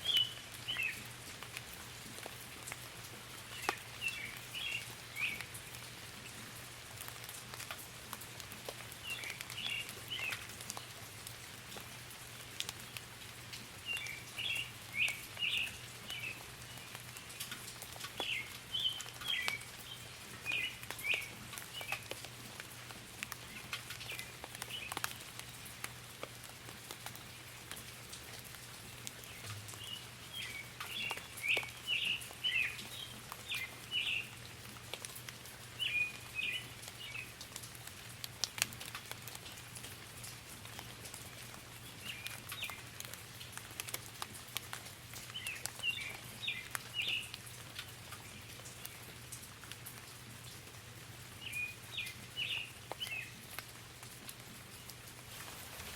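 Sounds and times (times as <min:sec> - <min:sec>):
songbirds chirping: 0:00.0 - 0:11.0, 0:12.0 - 0:50.0, 0:51.2 - 0:55.9
light rain pattering: 0:00.0 - 0:55.9
raindrops ticking: 0:00.0 - 0:55.9.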